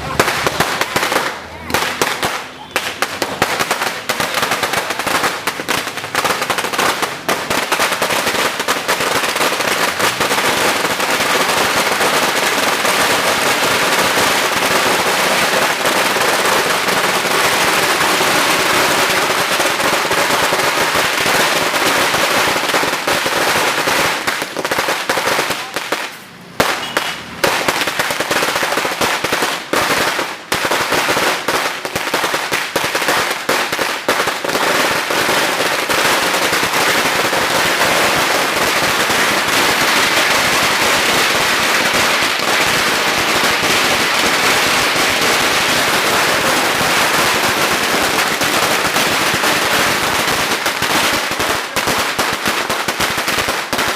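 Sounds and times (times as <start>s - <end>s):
firecrackers cracking: 0.0s - 53.9s.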